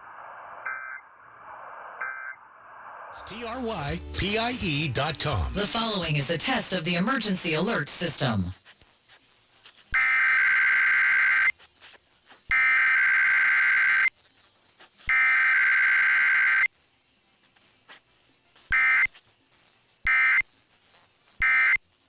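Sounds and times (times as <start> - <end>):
digital data bursts: 3.1 - 22.0.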